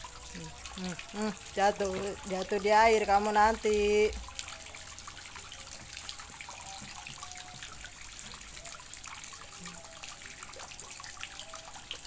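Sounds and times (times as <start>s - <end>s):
water trickling with drips: 0.0s - 12.0s.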